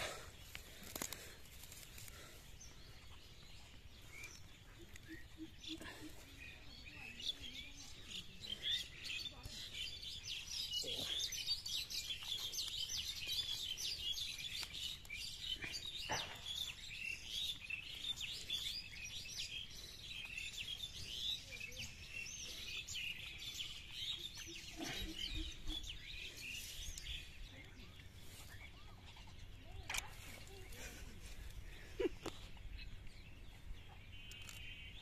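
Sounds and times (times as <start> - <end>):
small birds chirping chorus: 0.0 - 35.0.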